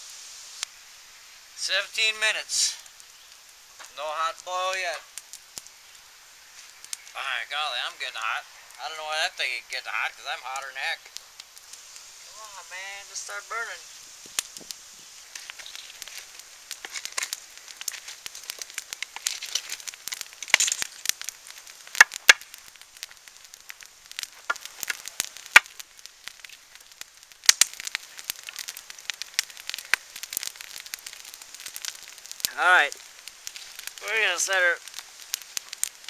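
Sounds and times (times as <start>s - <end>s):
campfire crackling and popping: 0.0s - 36.0s
light hiss: 0.0s - 36.0s.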